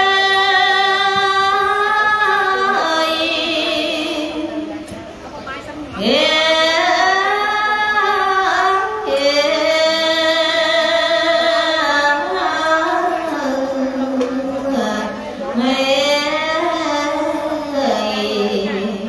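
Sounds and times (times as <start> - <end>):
woman singing devotional chant: 0.0 - 19.0.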